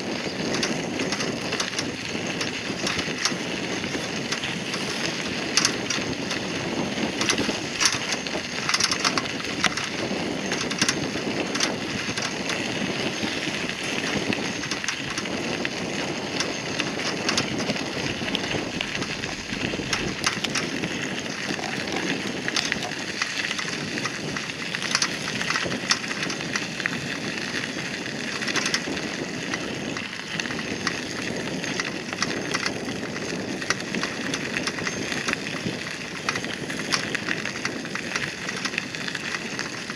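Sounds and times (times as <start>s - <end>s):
bicycle tyres crunching on gravel: 0.0s - 39.9s.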